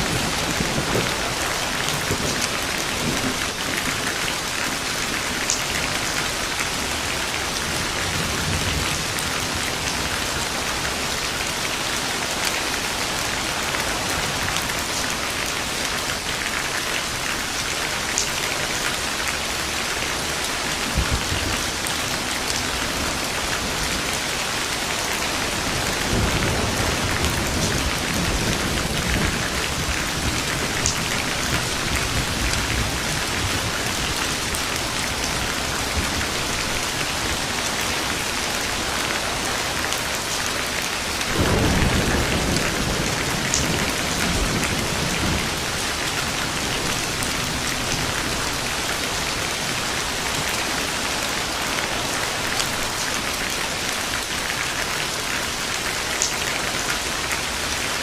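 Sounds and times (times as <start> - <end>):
low thunder rumbling: 0.0 - 16.0, 20.3 - 53.6
steady rain falling: 0.0 - 58.0.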